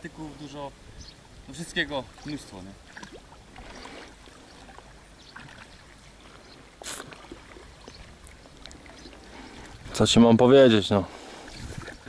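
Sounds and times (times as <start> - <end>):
swells of water noise: 0.0 - 12.0
oars splashing in water: 1.9 - 12.0.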